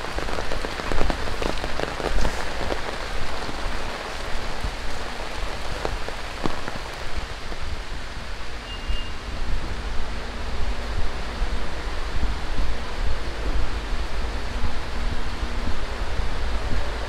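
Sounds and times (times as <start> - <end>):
close raindrops hitting: 0.0 - 17.0
steady rain falling: 0.0 - 17.0.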